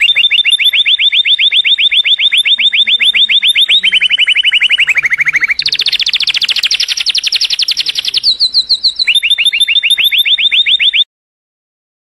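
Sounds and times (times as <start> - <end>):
canary singing trills: 0.0 - 11.1.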